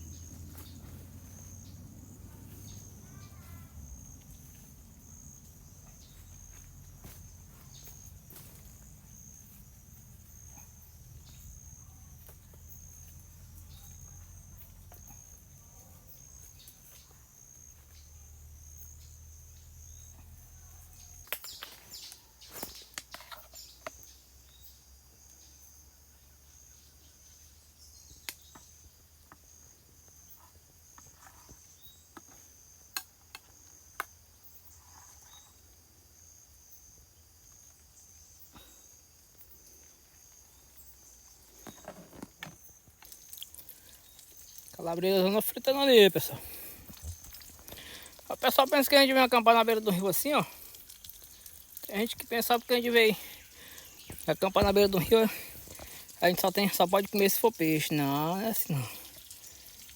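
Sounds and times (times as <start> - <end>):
insects chirping trill: 0.0 - 59.9.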